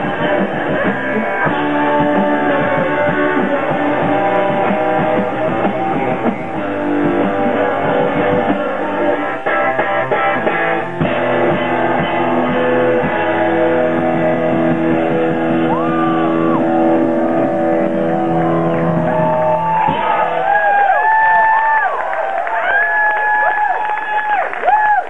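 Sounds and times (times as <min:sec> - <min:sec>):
rock band playing live: 0:00.0 - 0:21.3.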